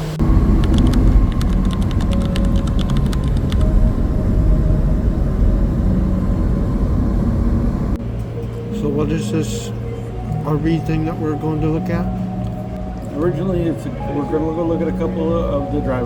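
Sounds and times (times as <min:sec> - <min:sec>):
faint steady whine: 0:00.0 - 0:16.0
truck engine and road rumble: 0:00.0 - 0:16.0.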